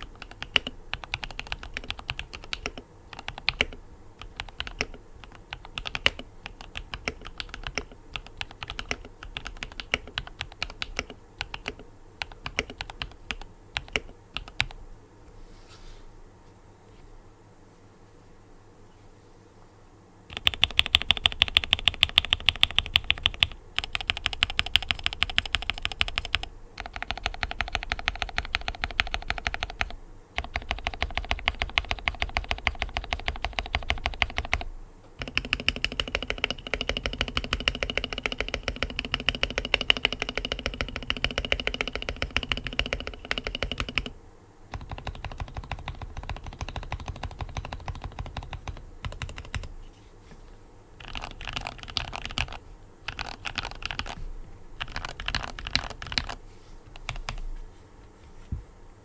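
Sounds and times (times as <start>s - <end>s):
fast typing on mechanical keyboard: 0.0s - 14.8s, 20.3s - 49.8s, 51.0s - 54.2s, 54.8s - 57.4s.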